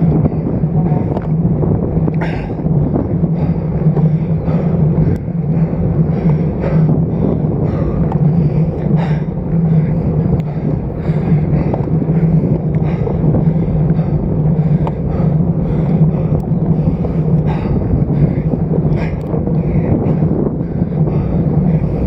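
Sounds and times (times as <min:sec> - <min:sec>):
steady low hum: 0:00.0 - 0:22.0
wind rushing over microphone: 0:00.0 - 0:22.0.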